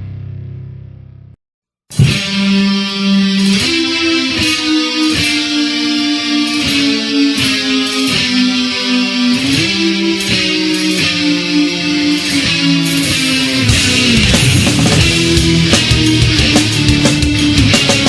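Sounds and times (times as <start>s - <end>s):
strummed guitar chords: 1.9s - 18.0s.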